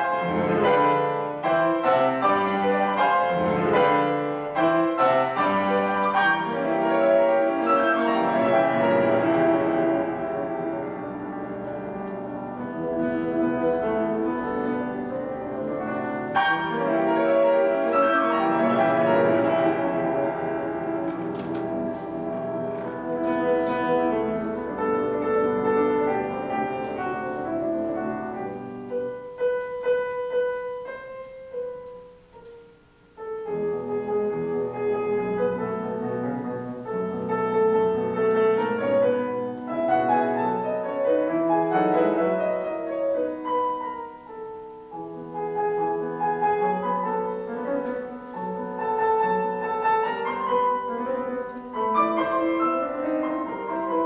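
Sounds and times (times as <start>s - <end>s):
classical solo piano: 0.0s - 54.0s.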